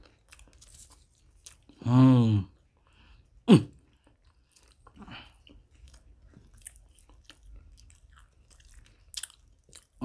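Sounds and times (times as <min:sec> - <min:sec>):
person chewing food: 0:00.0 - 0:01.8, 0:02.5 - 0:10.0.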